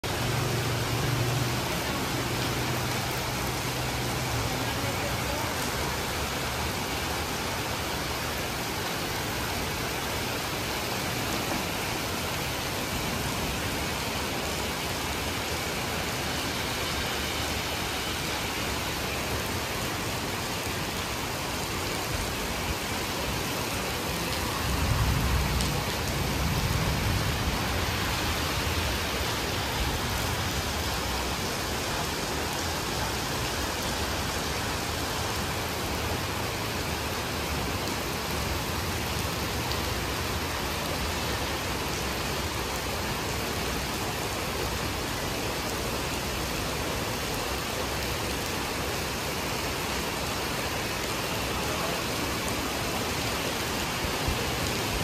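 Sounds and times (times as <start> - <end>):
heavy rain on stone paving: 0.0 - 55.0.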